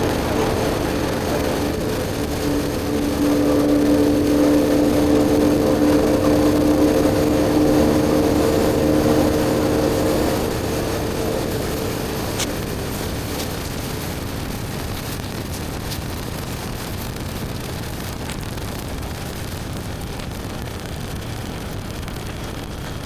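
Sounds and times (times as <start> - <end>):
motorcycle engine cruising: 0.0 - 23.0
wind and road noise: 0.0 - 23.0.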